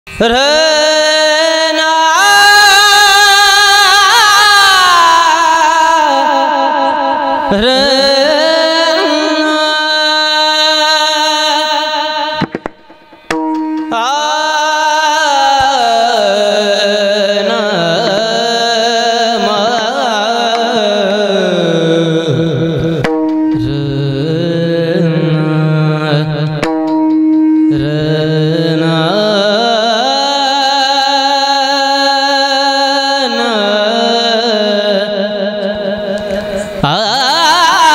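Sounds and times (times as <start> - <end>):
tabla: 0.1 - 37.9
devotional singing: 0.2 - 37.9.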